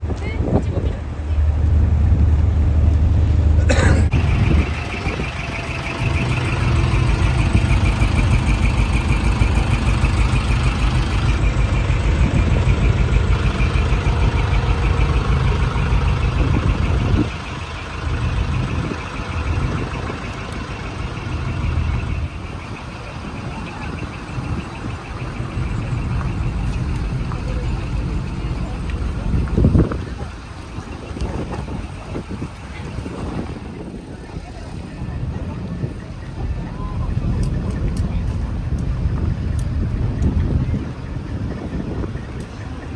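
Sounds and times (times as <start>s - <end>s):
diesel truck engine exhaust rumble: 0.0s - 42.9s.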